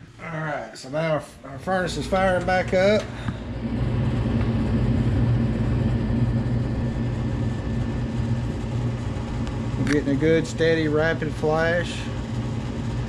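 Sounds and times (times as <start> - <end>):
furnace motor humming: 0.0 - 13.0.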